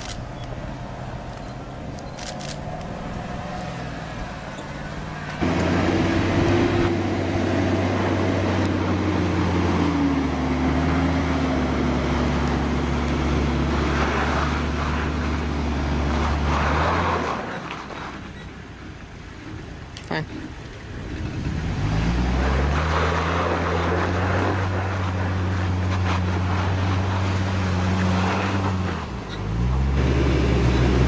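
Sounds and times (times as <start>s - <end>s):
engine droning at low speed: 0.0s - 31.0s.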